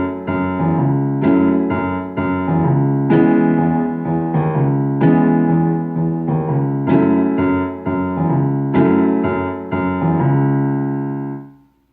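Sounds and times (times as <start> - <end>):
piano playing slow chords: 0.0 - 11.9.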